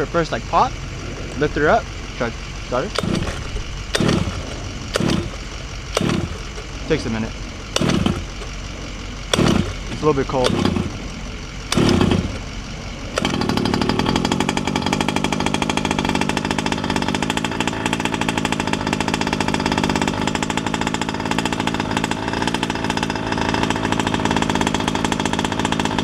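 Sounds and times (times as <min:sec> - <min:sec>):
small two-stroke engine buzzing: 0:00.0 - 0:26.0.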